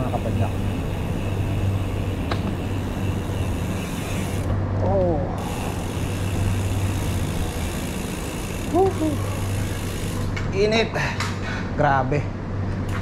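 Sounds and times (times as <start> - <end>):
bicycle tyres on pavement: 0.0 - 11.2.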